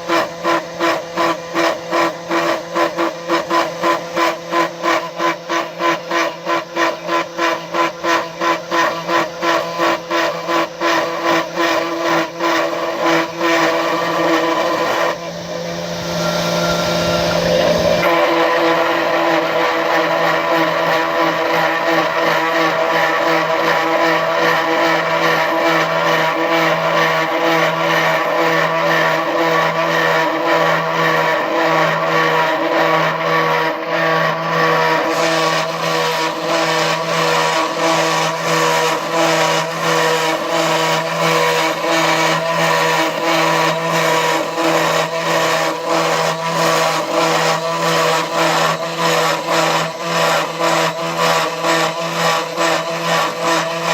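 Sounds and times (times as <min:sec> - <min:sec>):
milling machine motor whine: 0:00.0 - 0:53.9
rhythmic mechanical pulsing: 0:00.0 - 0:53.9.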